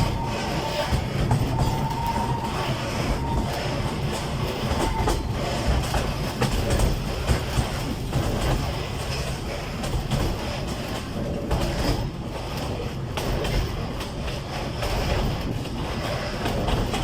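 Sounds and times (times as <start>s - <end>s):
diesel train rumbling: 0.0s - 17.0s
train wheels clicking on rail joints: 0.0s - 17.0s.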